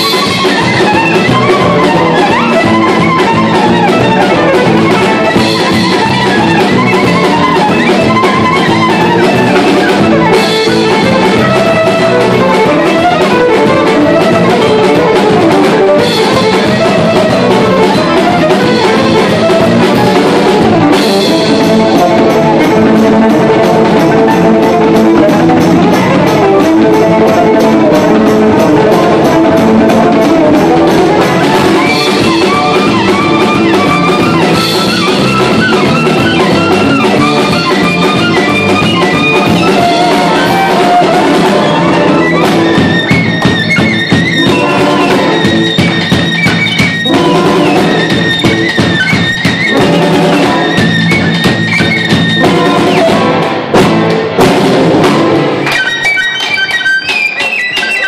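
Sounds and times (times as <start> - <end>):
fiddle melody: 0.0 - 58.0
live band playing: 0.0 - 58.0.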